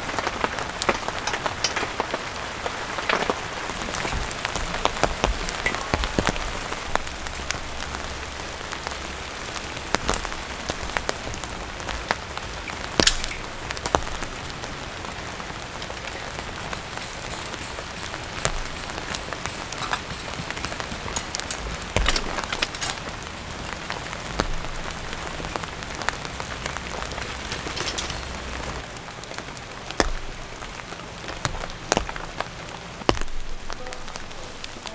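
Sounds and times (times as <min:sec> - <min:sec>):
rain falling: 0:00.0 - 0:34.9
raindrops tapping hard surface: 0:00.0 - 0:34.9.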